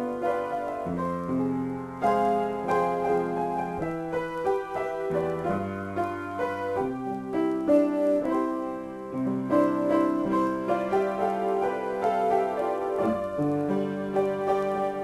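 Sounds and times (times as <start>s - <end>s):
slow piano improvisation: 0.0s - 15.0s.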